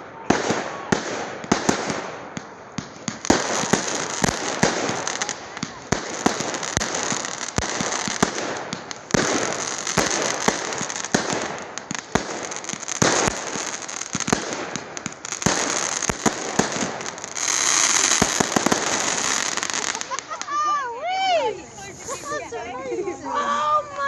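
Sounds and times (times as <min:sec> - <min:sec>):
firework bangs: 0:00.0 - 0:20.8
firework crackling: 0:00.0 - 0:24.0.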